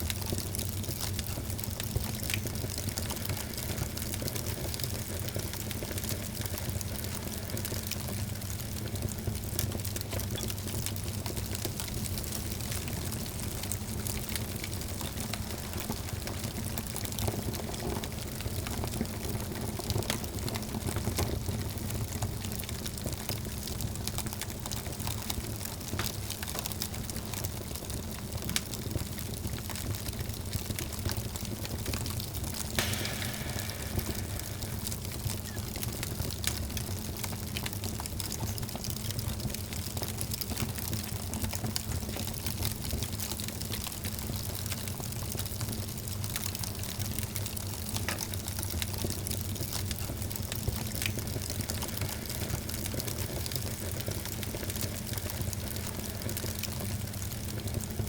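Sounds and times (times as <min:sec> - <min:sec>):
fire crackling and popping: 0:00.0 - 0:58.0
wood fire hissing: 0:00.1 - 0:27.4, 0:30.1 - 0:40.4, 0:41.0 - 0:58.0.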